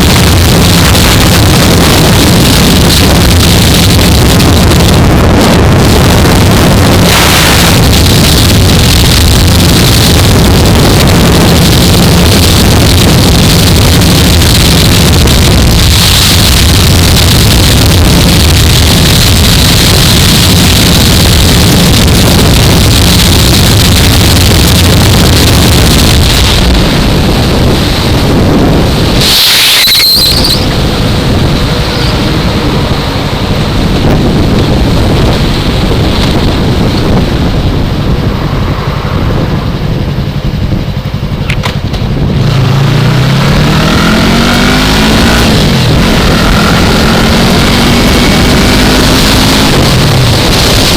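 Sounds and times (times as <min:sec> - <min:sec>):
motorcycle engine running: 0:00.0 - 0:50.9
wind rush over helmet: 0:00.0 - 0:50.9.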